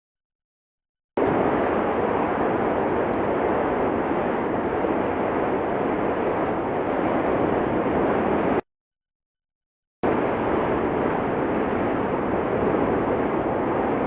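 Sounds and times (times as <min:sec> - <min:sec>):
volcano erupting rushing noise: 0:01.2 - 0:08.6, 0:10.0 - 0:14.0.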